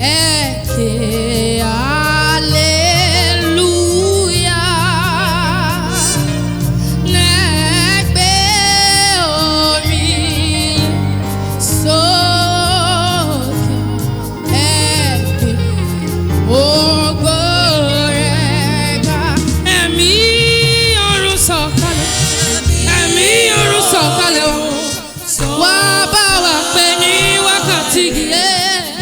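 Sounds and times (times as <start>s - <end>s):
keyboard and bass accompaniment: 0.0s - 29.0s
person singing with vibrato: 0.0s - 29.0s.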